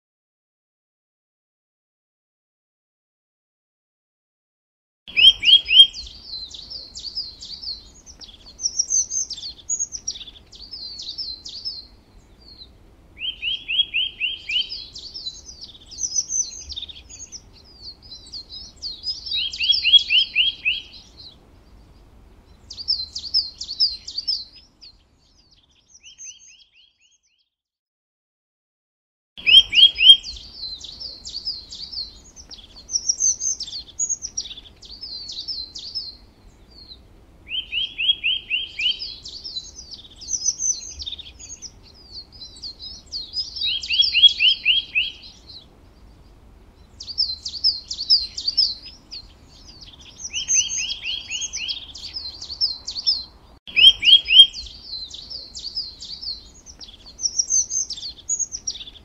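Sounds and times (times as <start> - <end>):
songbird singing: 5.1 - 27.6, 29.4 - 59.0.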